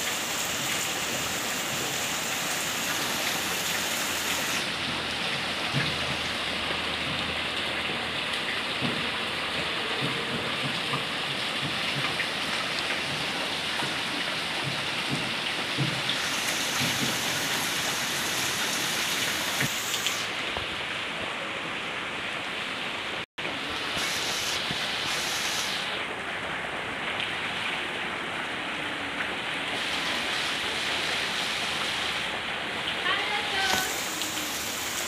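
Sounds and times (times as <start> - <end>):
heavy rain on puddles: 0.0 - 35.0.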